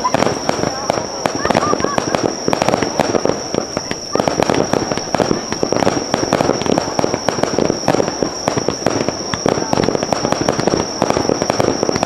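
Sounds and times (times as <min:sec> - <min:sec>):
fireworks bursts and crackles: 0:00.0 - 0:12.0.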